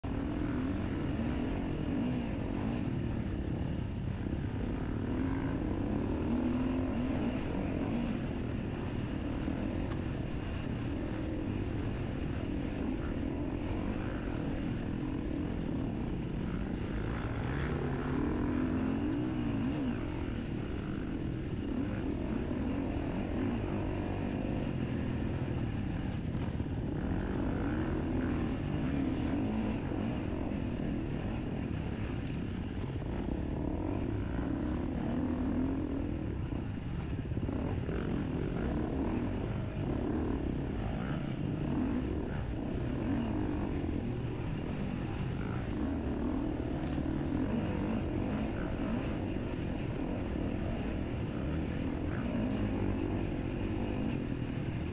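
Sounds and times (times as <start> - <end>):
motorcycle engine revving: 0.1 - 54.9.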